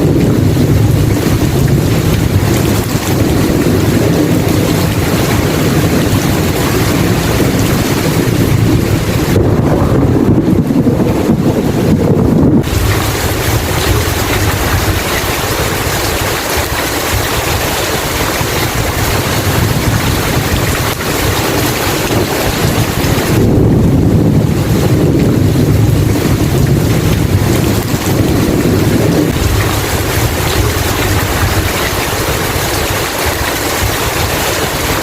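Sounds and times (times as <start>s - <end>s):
heavy rain: 0.0s - 35.0s
thunder rumbling: 0.0s - 35.0s.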